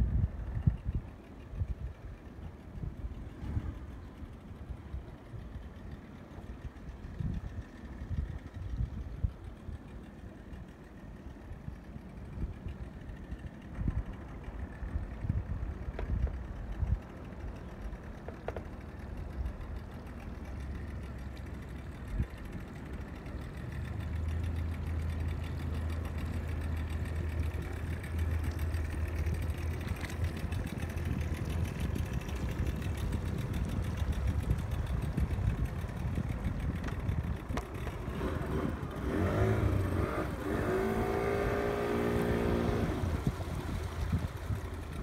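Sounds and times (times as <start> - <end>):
motorboat engine running: 0.0 - 45.0
outboard motor throttling: 0.0 - 45.0.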